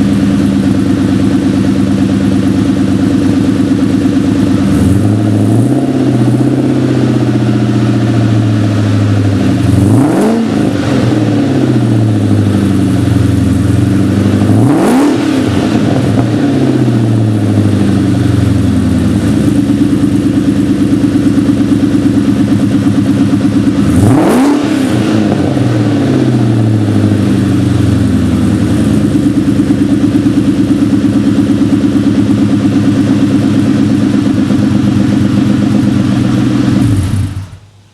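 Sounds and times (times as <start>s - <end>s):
car engine idling: 0.0s - 37.9s
engine revving: 0.0s - 37.9s.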